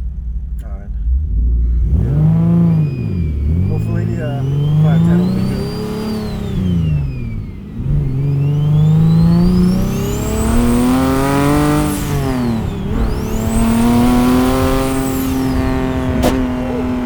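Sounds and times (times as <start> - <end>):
car engine accelerating: 0.0 - 17.0
turbo whistle: 2.1 - 10.9, 12.0 - 17.0.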